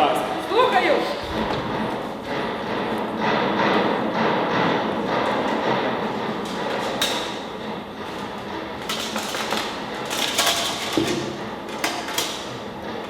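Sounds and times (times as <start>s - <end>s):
room noise: 0.0s - 13.0s.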